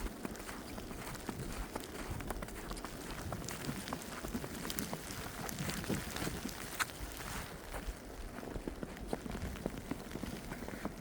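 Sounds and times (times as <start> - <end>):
footsteps crunching in snow: 0.0 - 11.0.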